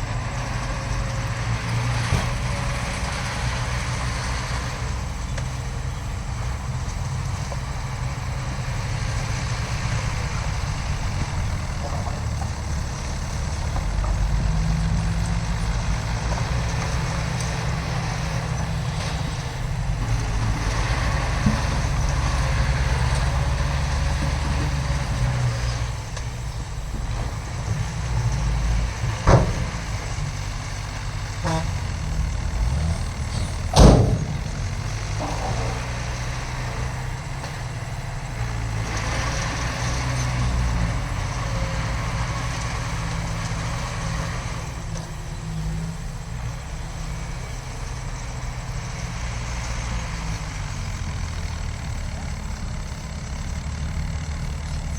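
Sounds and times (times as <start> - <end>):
heavy diesel machinery rumbling: 0.0 - 54.9.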